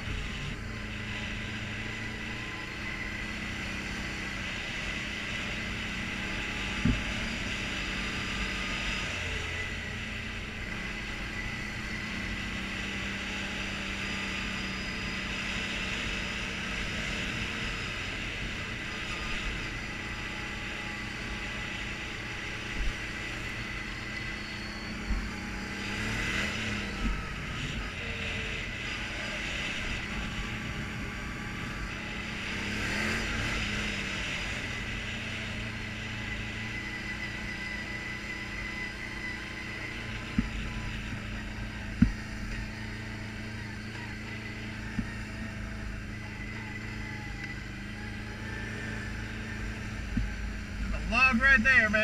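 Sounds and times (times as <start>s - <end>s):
atv engine running: 0.0s - 52.0s
tyres on dirt trail: 0.0s - 52.0s.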